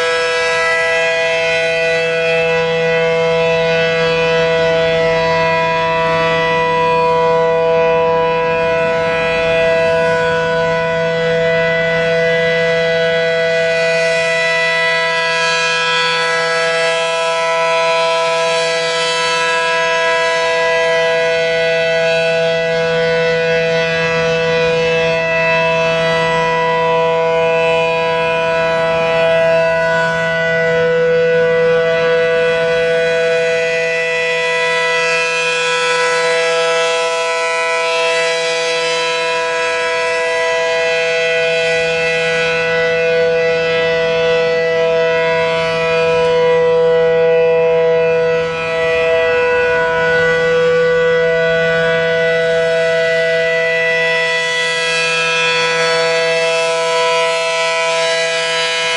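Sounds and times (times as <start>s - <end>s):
mechanical warning siren chord: 0.0s - 58.9s.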